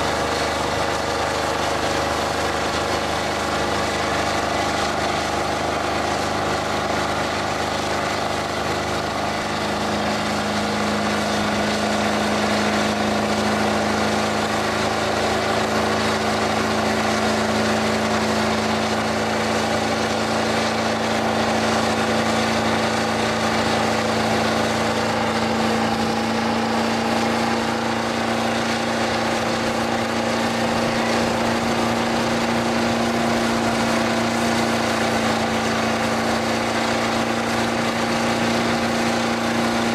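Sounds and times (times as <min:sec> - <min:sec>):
diesel engine at high revs: 0:00.0 - 0:39.9
tyres spinning on pavement: 0:00.0 - 0:39.9.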